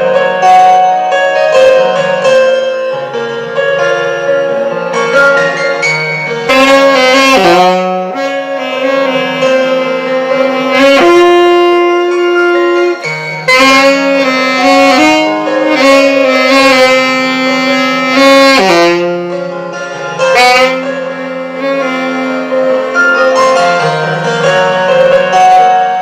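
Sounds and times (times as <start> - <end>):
alto saxophone slow melody: 0.0 - 26.0
backing accompaniment: 0.4 - 26.0.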